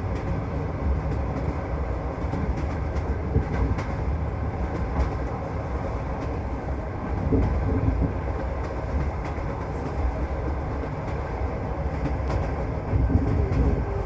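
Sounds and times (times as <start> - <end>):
rail joint clicks: 0.0 - 14.0
train wheels rumbling on track: 0.0 - 14.0.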